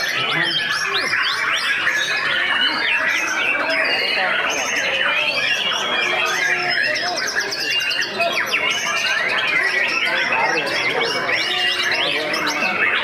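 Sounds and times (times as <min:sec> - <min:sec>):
songbirds chorus: 0:00.0 - 0:13.0.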